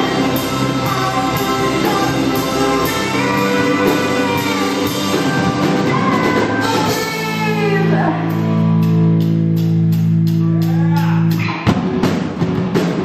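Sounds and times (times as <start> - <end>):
live band with electric guitar: 0.0 - 13.0.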